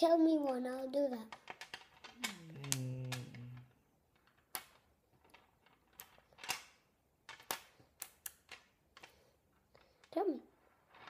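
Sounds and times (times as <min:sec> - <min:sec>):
magnetic balls clicking on tabletop: 0:00.3 - 0:10.2.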